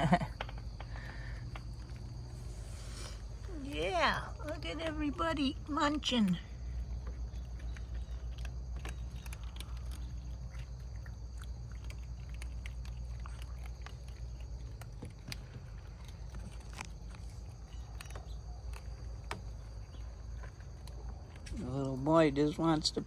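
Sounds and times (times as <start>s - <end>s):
cats crunching dry food: 0.0s - 23.0s.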